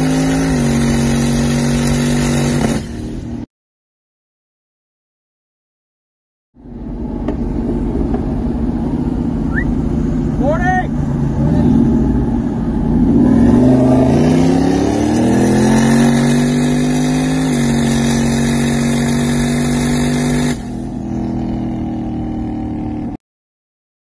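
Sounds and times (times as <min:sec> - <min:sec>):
car engine at full throttle: 0:00.0 - 0:03.4, 0:06.6 - 0:23.2.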